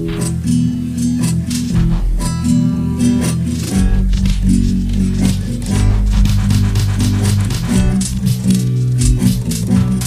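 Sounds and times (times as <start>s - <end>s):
instrumental rock music: 0.0s - 10.0s.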